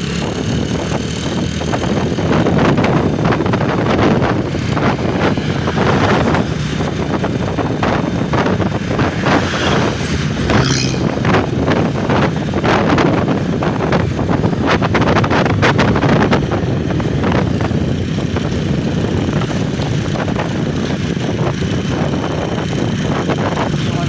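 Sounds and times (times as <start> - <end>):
vehicle engine rumble: 0.0 - 24.0
wind buffeting microphone: 0.0 - 24.0.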